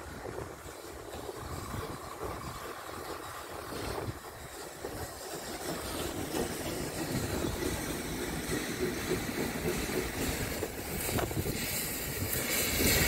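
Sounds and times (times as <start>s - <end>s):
train wheels rumbling with knocks: 0.0s - 13.0s.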